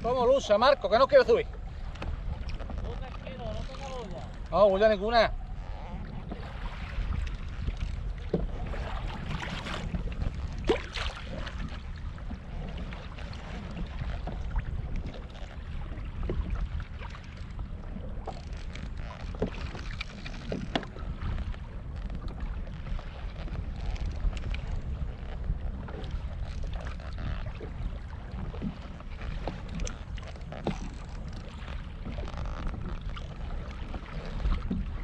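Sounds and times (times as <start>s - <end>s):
water lapping against kayak hull: 0.0s - 35.0s
wind buffeting microphone: 0.0s - 35.0s.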